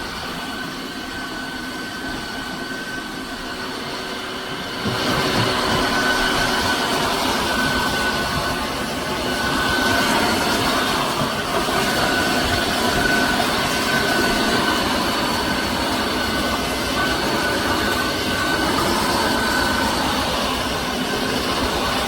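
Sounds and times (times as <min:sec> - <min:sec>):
floor washer motor drone: 0:00.0 - 0:22.0.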